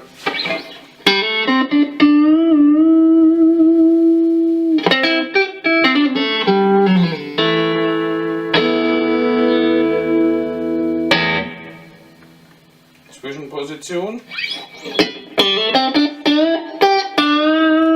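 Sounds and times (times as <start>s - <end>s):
electric guitar notes and chords: 0.0s - 13.0s, 14.3s - 17.9s.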